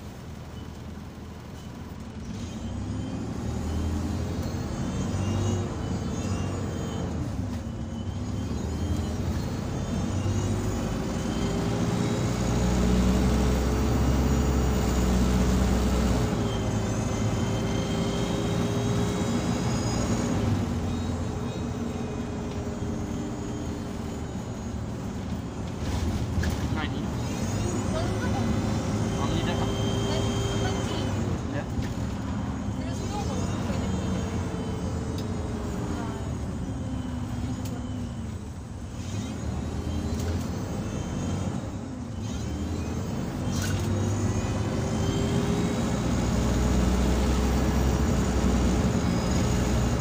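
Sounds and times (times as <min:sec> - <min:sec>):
bus engine whine: 0:00.0 - 0:50.0
deep diesel engine drone: 0:00.0 - 0:50.0.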